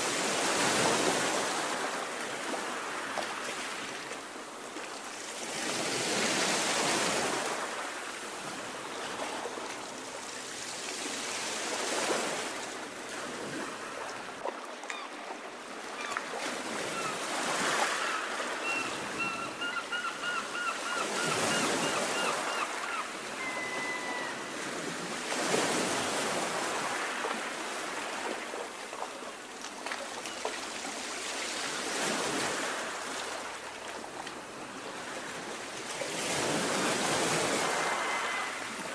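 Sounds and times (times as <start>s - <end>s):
waves lapping at shore: 0.0s - 38.9s.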